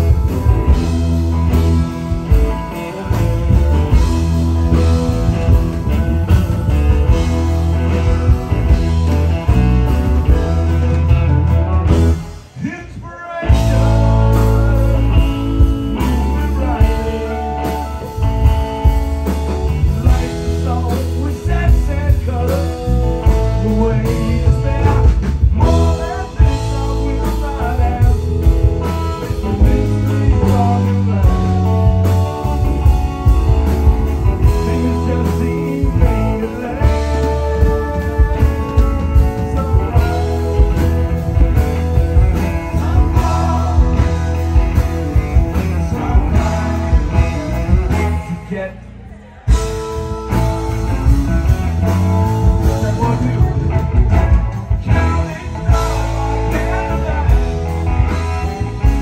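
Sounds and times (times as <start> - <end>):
drum kit: 0.0 - 48.7, 49.3 - 59.0
electric bass: 0.0 - 59.0
electric guitar: 0.0 - 59.0
man singing: 0.0 - 59.0.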